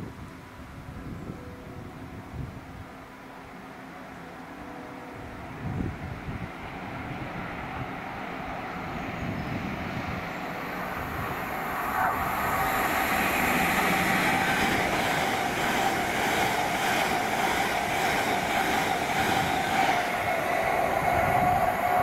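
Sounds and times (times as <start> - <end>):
train whine: 0.0 - 22.0
train rumbling past: 2.7 - 22.0.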